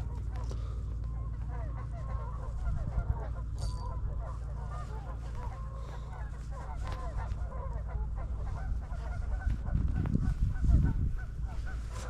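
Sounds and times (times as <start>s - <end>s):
chorus of animal calls: 0.0s - 12.0s
steady low rumble: 0.0s - 12.0s.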